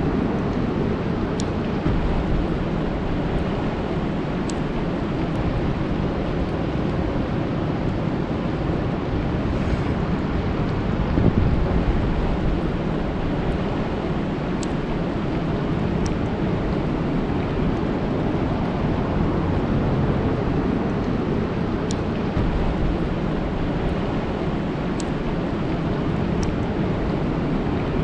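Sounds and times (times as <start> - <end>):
rain falling on a lake: 0.4 - 9.4, 10.2 - 28.0.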